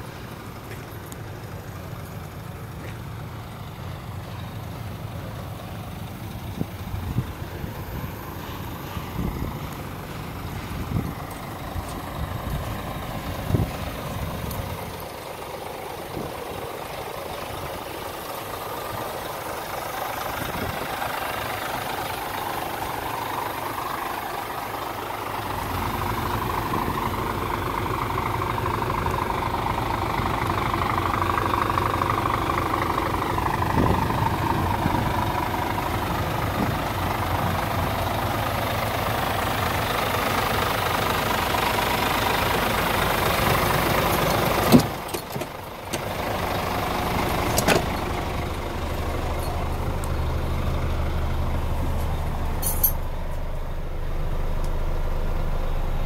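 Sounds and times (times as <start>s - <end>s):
diesel truck idling: 0.0s - 56.0s.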